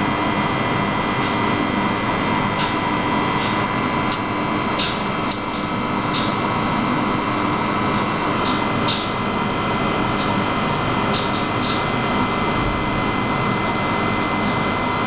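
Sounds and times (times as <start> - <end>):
furnace humming: 0.0 - 15.0.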